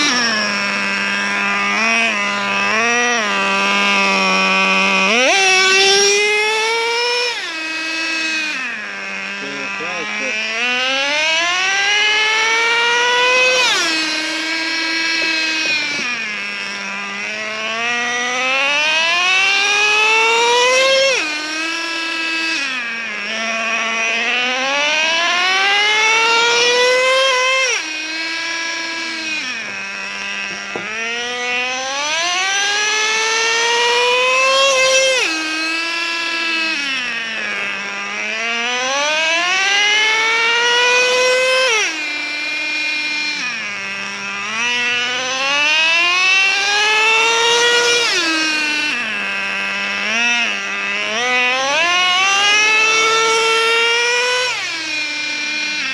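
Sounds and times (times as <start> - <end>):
nitro engine revving: 0.0 - 55.9.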